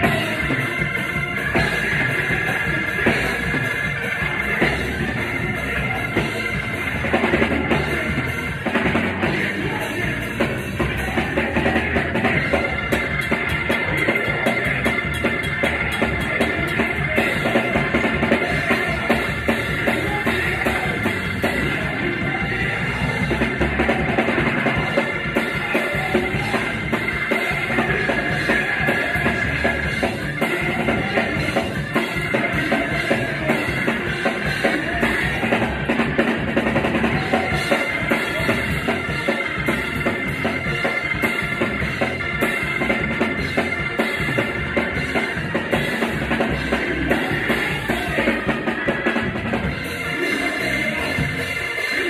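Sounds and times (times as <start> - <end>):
bass drum and snare beat: 0.0 - 51.6
gospel band playing: 0.0 - 52.0.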